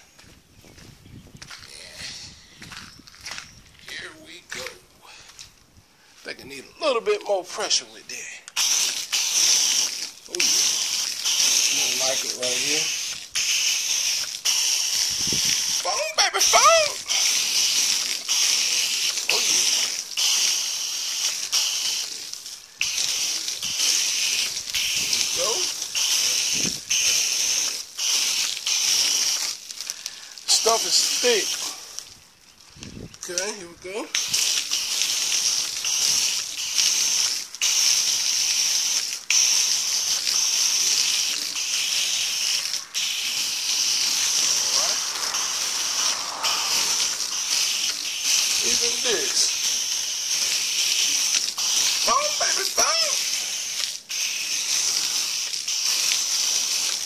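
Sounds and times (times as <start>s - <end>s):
foam gun spraying: 8.5s - 31.8s, 34.1s - 57.0s.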